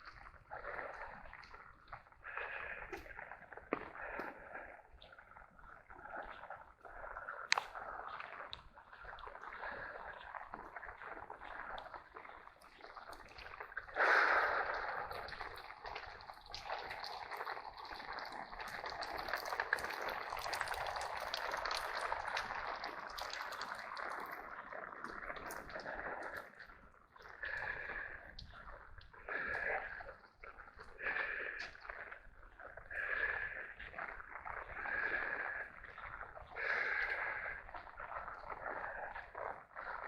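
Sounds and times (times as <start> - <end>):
water dripping and splashing: 0.0 - 40.0.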